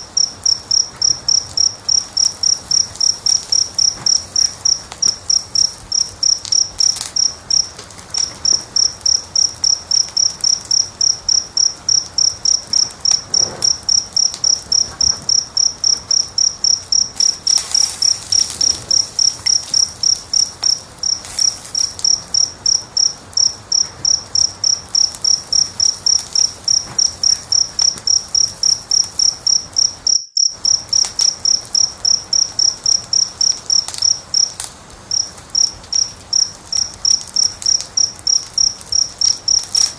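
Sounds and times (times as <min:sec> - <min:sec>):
cricket chirping: 0:00.0 - 0:39.9
wood fire crackling: 0:00.0 - 0:39.9.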